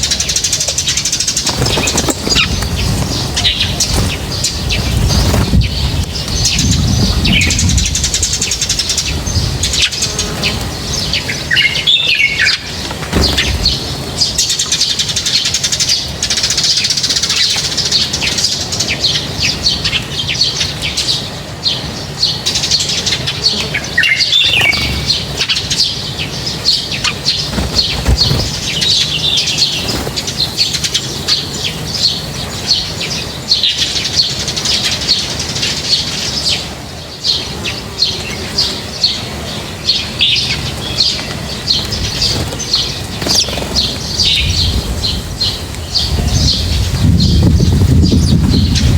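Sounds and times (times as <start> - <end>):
flock of small birds chirping: 0.0 - 48.9.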